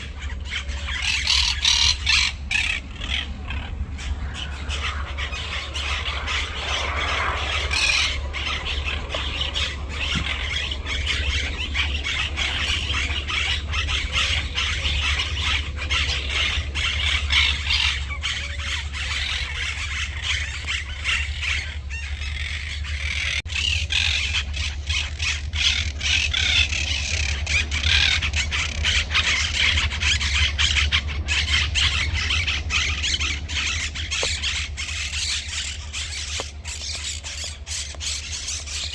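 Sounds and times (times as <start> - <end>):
low electrical hum: 0.0 - 38.9
small birds chirping: 0.0 - 38.9.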